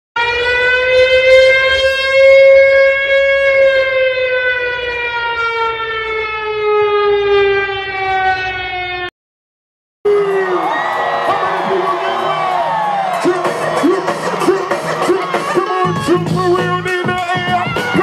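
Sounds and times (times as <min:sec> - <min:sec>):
siren wailing: 0:00.2 - 0:09.1, 0:10.1 - 0:18.0.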